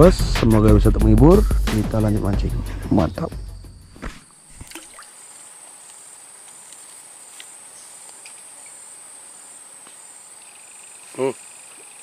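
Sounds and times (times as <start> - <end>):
pulsing insect call: 0.0 - 12.0
high-pitched insect trill: 1.9 - 12.0.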